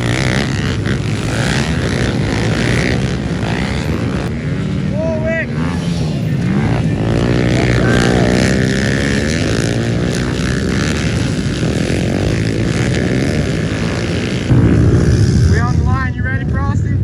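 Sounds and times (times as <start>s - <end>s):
pit bike engines racing: 0.0s - 17.0s.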